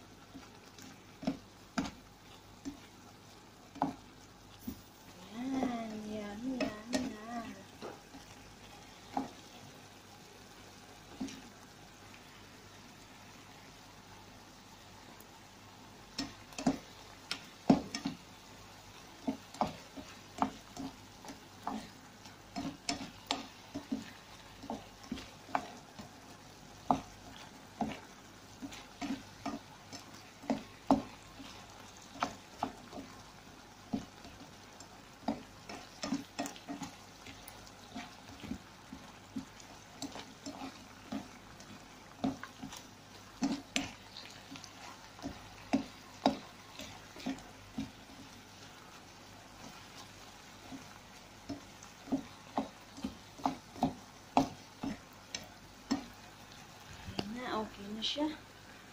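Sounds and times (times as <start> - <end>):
faint sizzle: 0.0 - 58.9.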